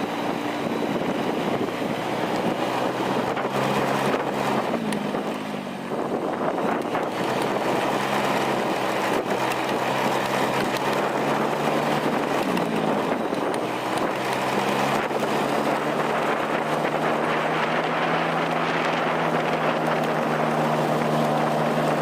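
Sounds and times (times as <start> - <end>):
vehicle engine running: 0.0 - 22.0
wind noise on microphone: 0.0 - 22.0.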